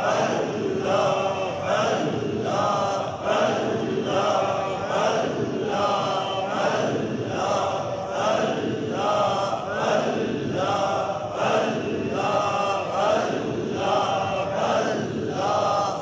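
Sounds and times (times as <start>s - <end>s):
men chanting in unison: 0.0s - 16.0s.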